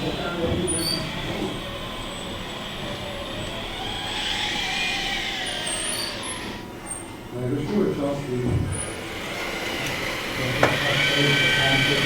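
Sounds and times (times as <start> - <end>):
electric motor whine: 0.0 - 6.9, 7.9 - 12.0
noisy background: 0.0 - 12.0.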